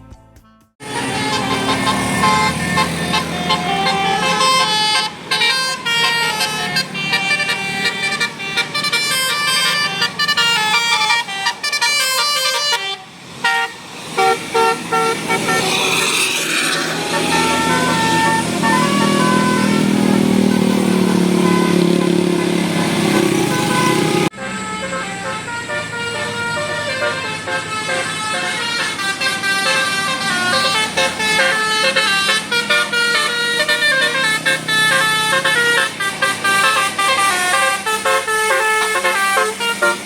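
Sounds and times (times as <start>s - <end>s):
bus and road noise: 0.8s - 40.0s
bus horn playing a tune: 0.8s - 40.0s.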